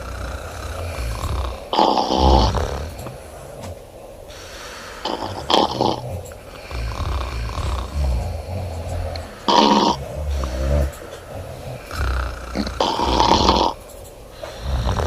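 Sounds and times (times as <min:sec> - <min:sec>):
woman snoring: 0:00.0 - 0:13.8, 0:14.4 - 0:15.0.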